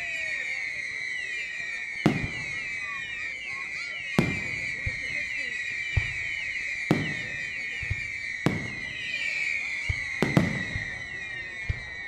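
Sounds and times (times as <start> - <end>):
firework bangs with echoes: 0.0 - 12.0.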